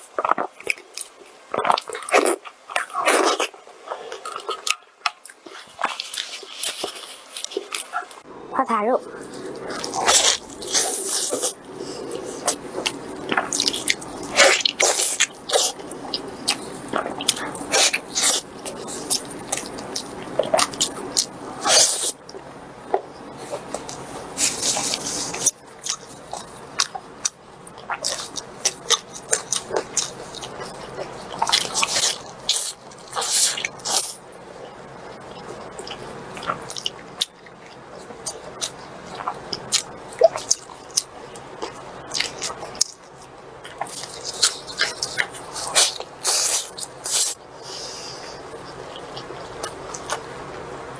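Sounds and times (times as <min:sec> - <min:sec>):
wet chewing and slurping: 0:00.0 - 0:08.2, 0:09.0 - 0:50.9.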